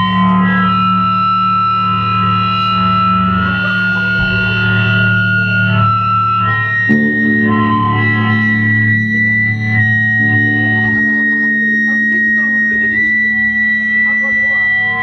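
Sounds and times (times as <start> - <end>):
amplifier feedback whine: 0.0 - 15.0
distorted electric guitars: 0.0 - 15.0.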